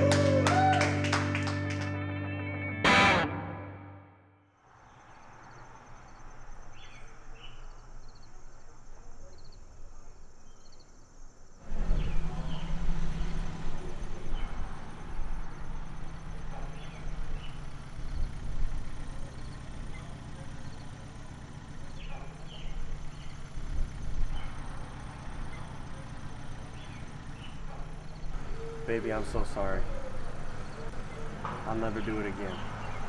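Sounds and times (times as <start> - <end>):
car engine low rumble: 4.7 - 33.0.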